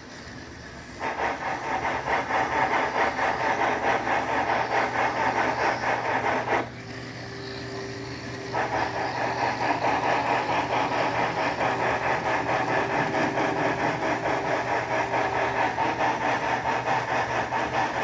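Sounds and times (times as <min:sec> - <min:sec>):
model steam locomotive chuffs: 0:00.0 - 0:18.0.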